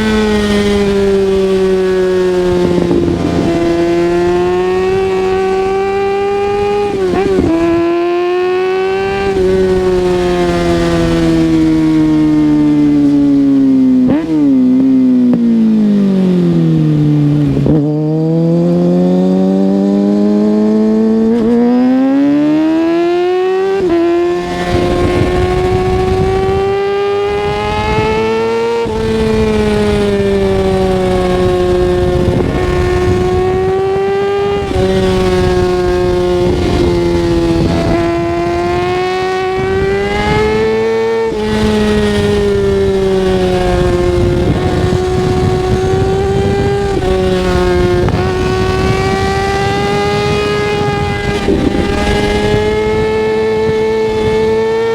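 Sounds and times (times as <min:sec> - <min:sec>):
motorcycle engine revving: 0:00.0 - 0:54.9
wind noise: 0:00.0 - 0:54.9.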